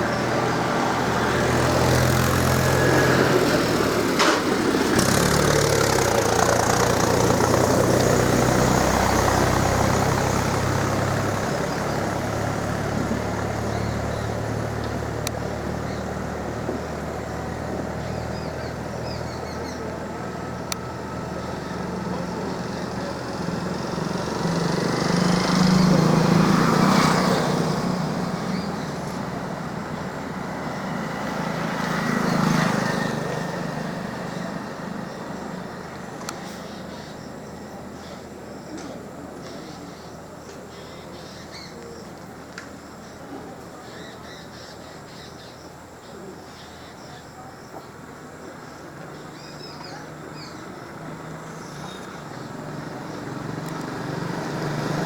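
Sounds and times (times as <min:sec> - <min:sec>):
motor vehicle engines running: 0:00.0 - 0:55.0
vehicles passing close by: 0:00.0 - 0:55.0.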